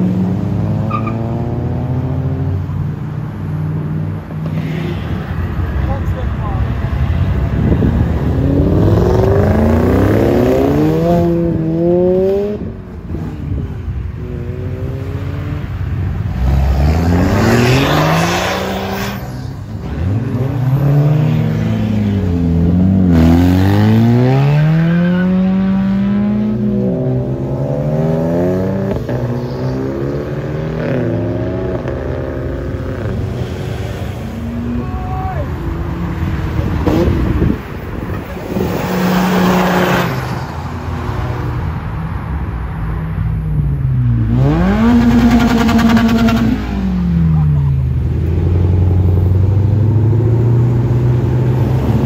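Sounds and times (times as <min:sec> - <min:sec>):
car engines revving hard: 0:00.0 - 0:43.1, 0:43.7 - 0:52.0
car accelerating with rushing noise: 0:03.7 - 0:34.8, 0:35.6 - 0:42.3, 0:43.7 - 0:52.0.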